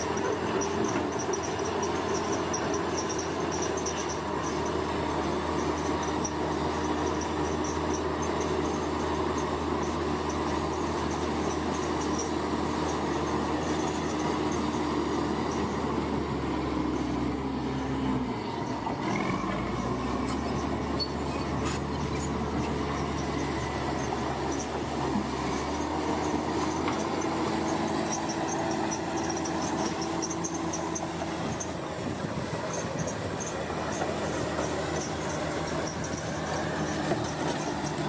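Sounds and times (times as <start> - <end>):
bulldozer diesel engine droning: 0.0 - 38.0.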